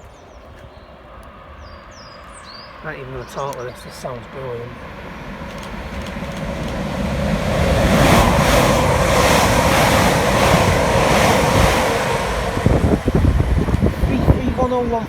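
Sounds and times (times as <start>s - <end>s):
train wheels and air rushing: 1.2s - 15.0s.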